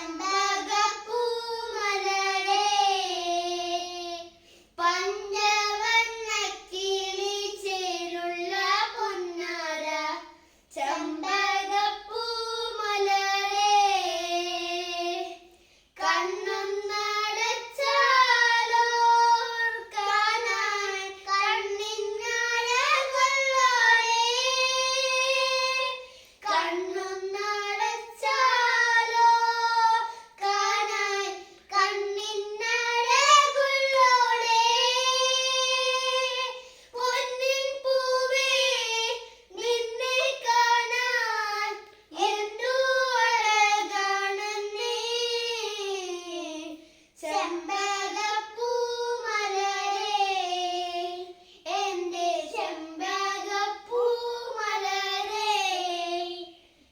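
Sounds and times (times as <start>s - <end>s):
child singing unaccompanied: 0.0s - 56.9s.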